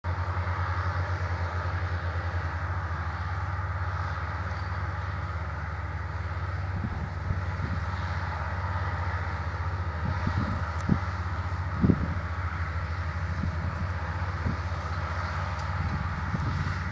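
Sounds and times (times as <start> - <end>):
tractor diesel engines droning: 0.0 - 16.9.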